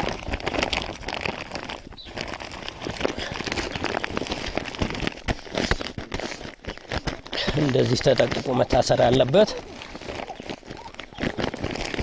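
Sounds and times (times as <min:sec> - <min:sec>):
plastic sack rustling: 0:00.0 - 0:12.0.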